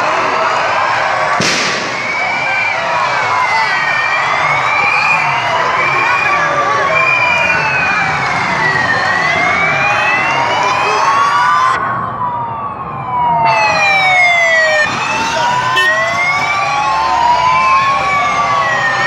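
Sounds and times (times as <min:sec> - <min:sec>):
sirens wailing: 0:00.0 - 0:19.0.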